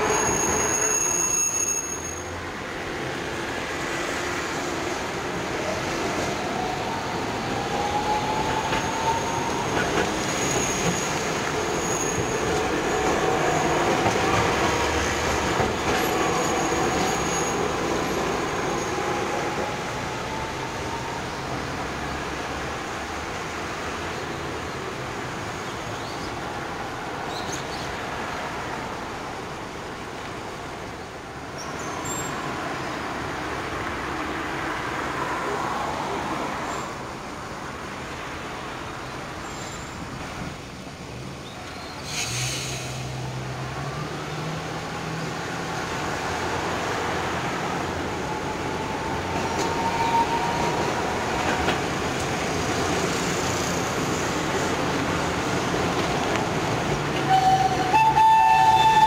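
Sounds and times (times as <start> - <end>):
trams running over rails: 0.0 - 59.0.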